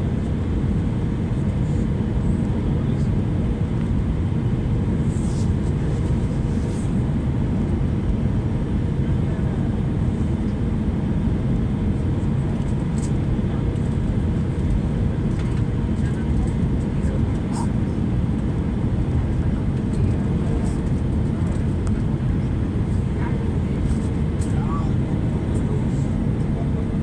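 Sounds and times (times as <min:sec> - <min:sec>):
airplane cabin roar: 0:00.0 - 0:27.0.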